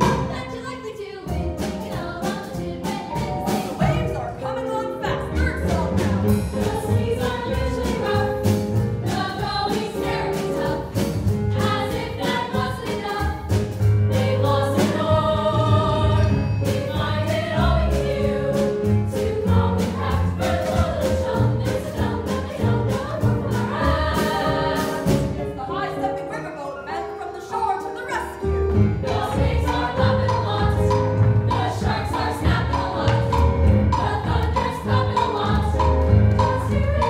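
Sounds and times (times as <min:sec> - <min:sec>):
chorus singing in unison: 0:00.0 - 0:04.5, 0:05.6 - 0:27.0, 0:28.8 - 0:37.0
instrumental accompaniment with beat: 0:00.0 - 0:25.6, 0:27.8 - 0:37.0.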